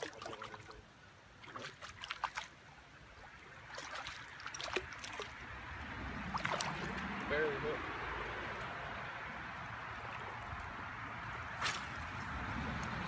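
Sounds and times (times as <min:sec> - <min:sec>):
fish splashing in water: 0:00.0 - 0:13.0
river current wash: 0:00.0 - 0:13.0.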